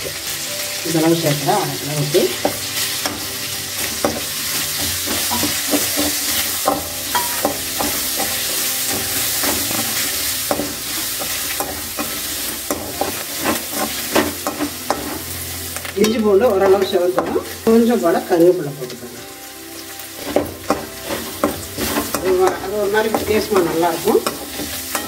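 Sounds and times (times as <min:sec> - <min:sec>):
food sizzling in hot oil: 0:00.0 - 0:25.0
metal ladle scraping a pan: 0:02.3 - 0:17.6, 0:19.8 - 0:25.0.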